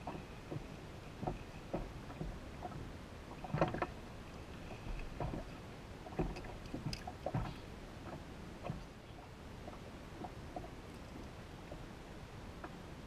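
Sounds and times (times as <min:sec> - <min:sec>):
water slapping boat hull: 0:00.0 - 0:13.0.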